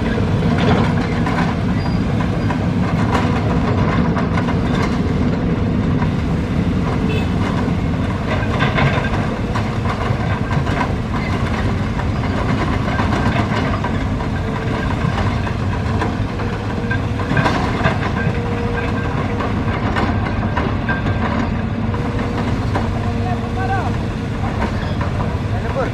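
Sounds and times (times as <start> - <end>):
excavator diesel engine running: 0.0 - 25.9
metallic clanks and clatter: 0.0 - 25.9.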